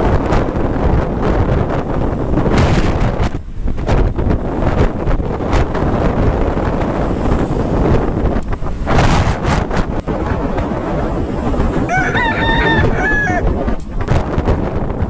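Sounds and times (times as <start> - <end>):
road and traffic noise: 0.0 - 15.0
wind rushing over camera: 0.0 - 15.0.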